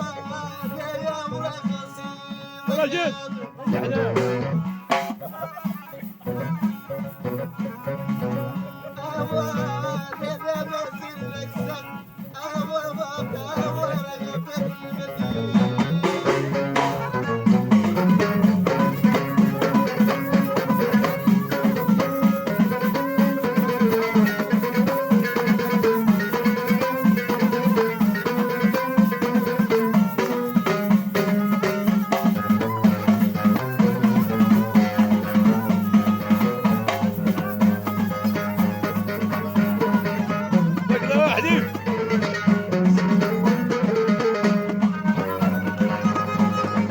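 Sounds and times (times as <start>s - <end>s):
drums and percussion: 0.0s - 46.9s
plucked string melody: 0.0s - 46.9s.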